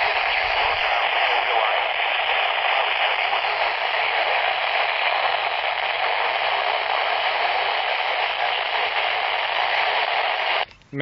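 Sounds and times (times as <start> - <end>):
radio static hiss: 0.0 - 10.7.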